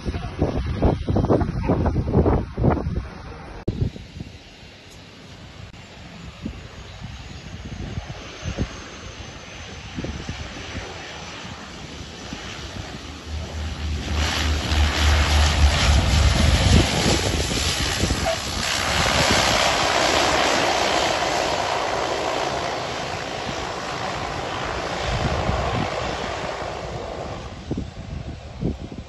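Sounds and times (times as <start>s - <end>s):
wind rumble on microphone: 0.0s - 4.4s, 5.5s - 29.0s
turboprop plane taking off: 0.0s - 29.0s.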